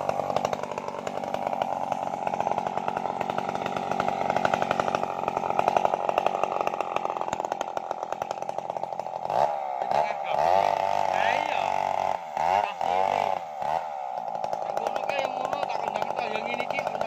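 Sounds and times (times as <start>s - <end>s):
chainsaw cutting into a log: 0.0s - 17.0s.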